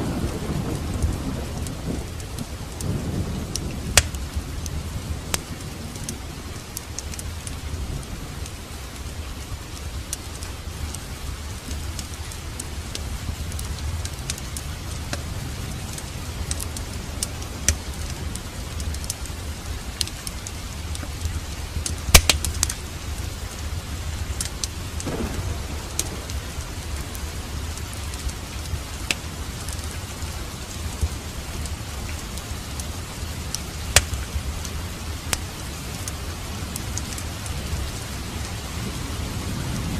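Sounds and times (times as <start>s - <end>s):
crackling fireplace: 0.0s - 39.9s
steady rain: 0.0s - 39.9s.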